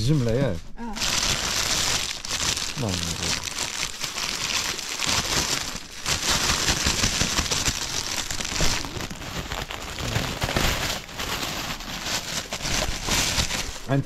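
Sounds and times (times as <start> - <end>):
dense crackling rustle: 1.0 - 14.0.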